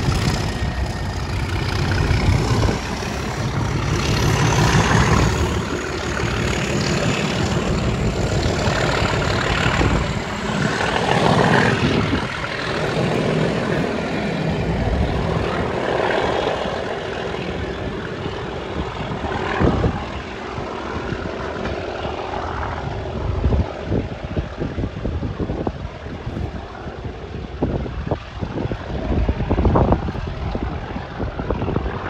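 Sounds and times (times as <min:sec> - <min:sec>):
diesel train engine: 0:00.0 - 0:32.0
wheels rumbling on rails: 0:00.0 - 0:32.0.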